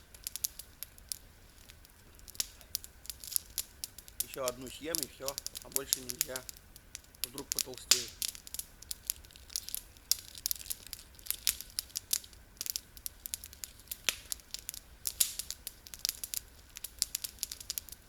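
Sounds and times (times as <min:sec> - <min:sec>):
candy wrapper crinkling: 0:00.3 - 0:06.6, 0:07.2 - 0:18.0.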